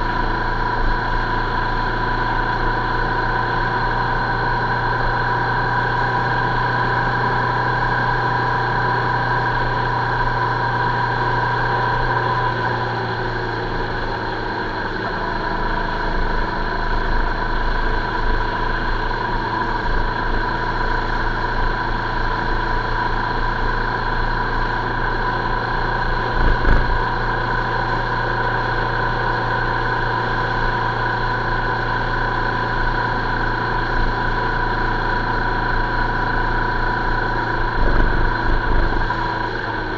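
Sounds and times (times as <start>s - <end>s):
vehicle driving on road: 0.0s - 39.9s.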